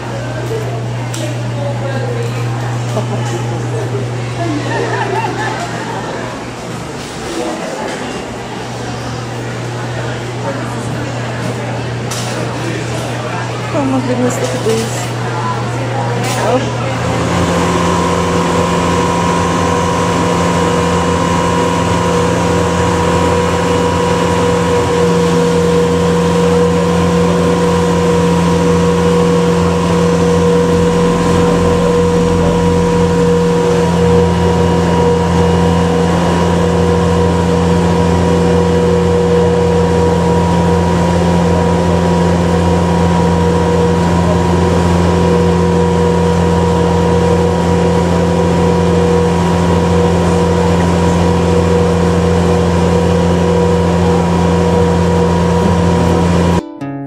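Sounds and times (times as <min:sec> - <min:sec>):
boat engine droning: 0:00.0 - 0:56.6.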